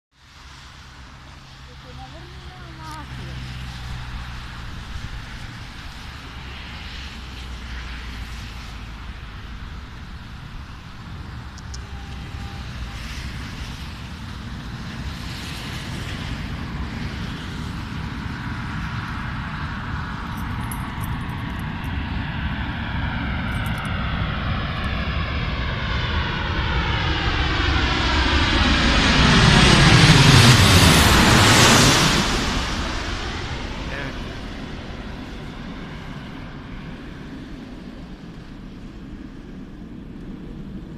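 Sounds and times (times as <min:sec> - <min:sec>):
distant jet engine hiss: 0:00.2 - 0:40.9
wind rumbling on microphone: 0:00.3 - 0:40.9.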